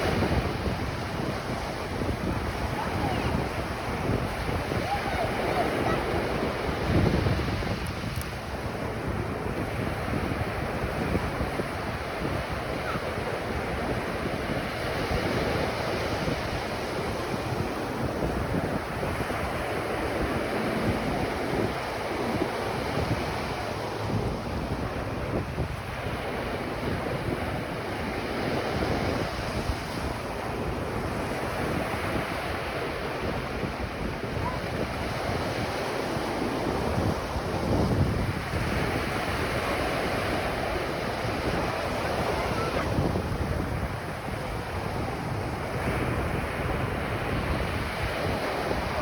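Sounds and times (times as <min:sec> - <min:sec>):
waves breaking on beach: 0:00.0 - 0:49.0.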